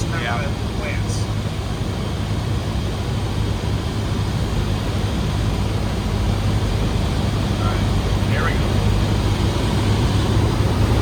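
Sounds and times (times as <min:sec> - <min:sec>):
plane engine and propeller droning: 0:00.0 - 0:11.0.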